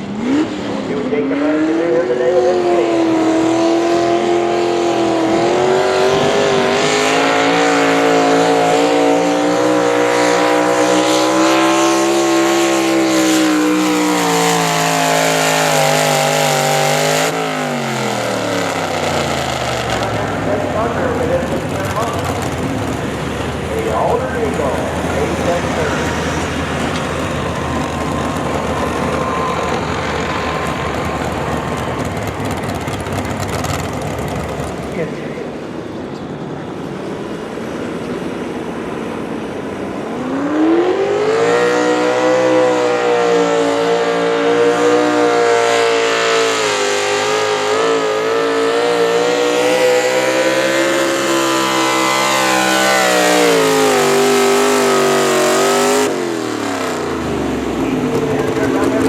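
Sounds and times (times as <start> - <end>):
vehicle engine revving: 0.0 - 36.3, 39.6 - 59.0.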